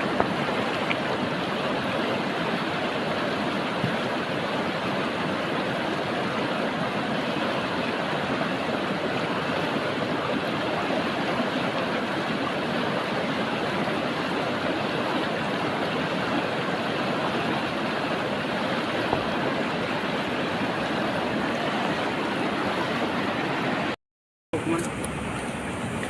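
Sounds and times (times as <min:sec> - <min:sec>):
river water rushing: 0:00.0 - 0:24.0, 0:24.6 - 0:26.0.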